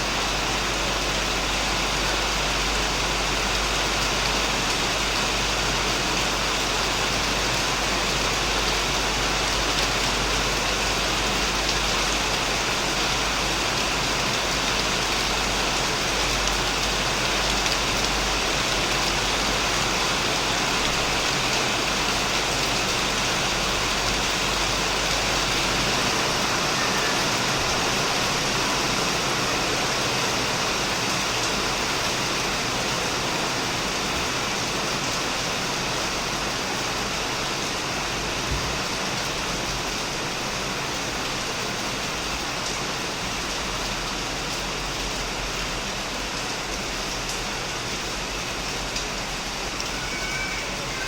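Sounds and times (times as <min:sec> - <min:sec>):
heavy rain on a shed: 0:00.0 - 0:51.0.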